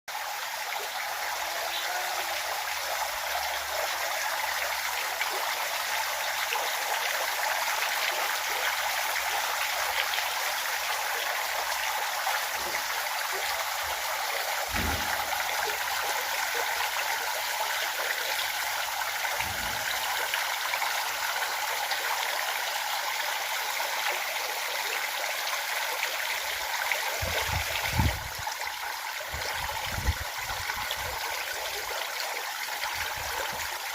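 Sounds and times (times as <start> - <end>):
stream water flowing: 0.1 - 33.9.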